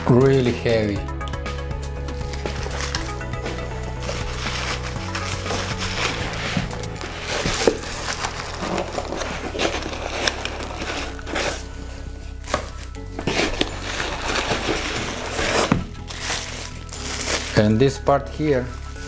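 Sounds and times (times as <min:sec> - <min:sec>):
background music: 0:00.0 - 0:19.0
packaging crinkling: 0:02.1 - 0:19.0.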